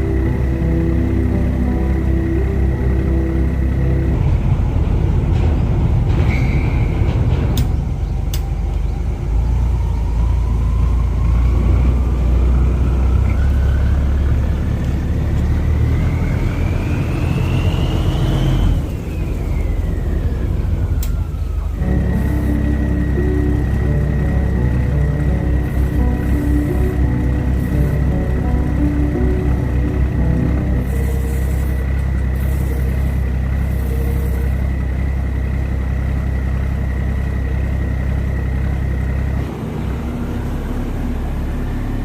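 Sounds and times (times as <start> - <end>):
boat engine rumble: 0.0 - 42.0
climbing whine: 0.0 - 42.0.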